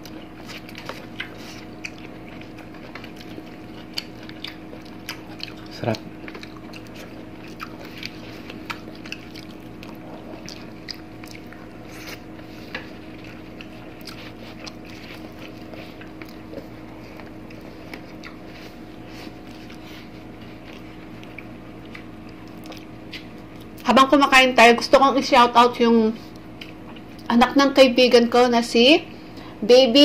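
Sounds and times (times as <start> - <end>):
chewing with mouth smacks: 0.0 - 23.9, 26.2 - 27.3
faint steady hum: 0.0 - 30.0.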